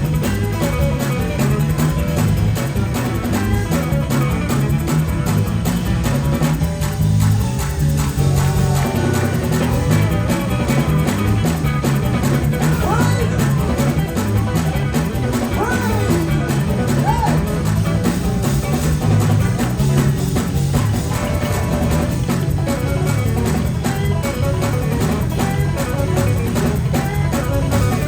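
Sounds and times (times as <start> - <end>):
busy drums: 0.0 - 28.0
gospel band playing: 0.0 - 28.0
guitar: 0.0 - 28.0
steady bass line: 0.0 - 28.0.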